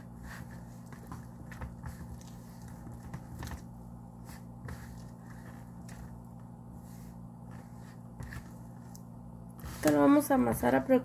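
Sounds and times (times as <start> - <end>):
hands squishing dough: 0.0 - 11.0.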